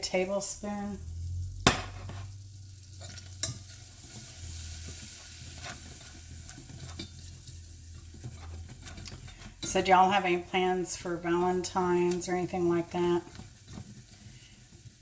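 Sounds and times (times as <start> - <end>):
butter sizzling in a pan: 0.0 - 15.0.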